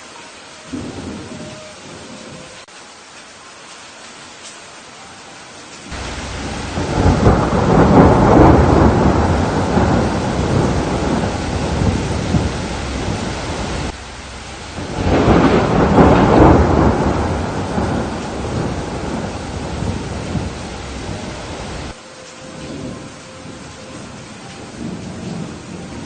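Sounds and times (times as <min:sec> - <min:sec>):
heavy rain: 0:00.0 - 0:26.0
thunder rolling: 0:00.7 - 0:02.7, 0:05.9 - 0:26.0.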